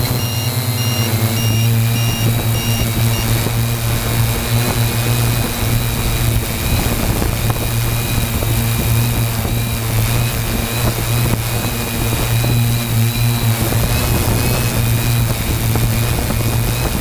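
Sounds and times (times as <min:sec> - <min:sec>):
drone motors and propellers: 0:00.0 - 0:17.0.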